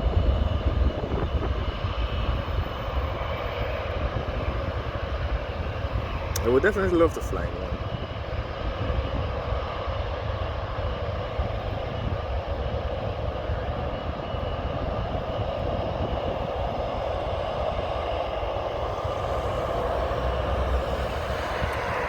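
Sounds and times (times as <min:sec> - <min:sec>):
distant jet engines running: 0:00.0 - 0:22.0
wind buffeting microphone: 0:00.0 - 0:22.0.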